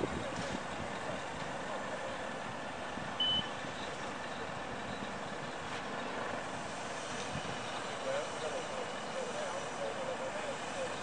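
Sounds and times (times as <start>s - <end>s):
steady outdoor noise: 0.0s - 11.0s.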